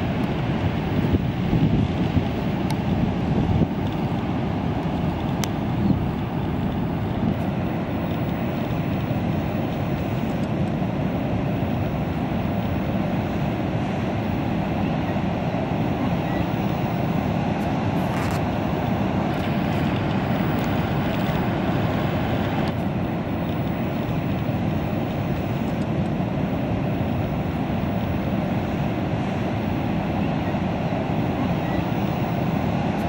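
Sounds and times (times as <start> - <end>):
ocean surf breaking: 0.0 - 33.0.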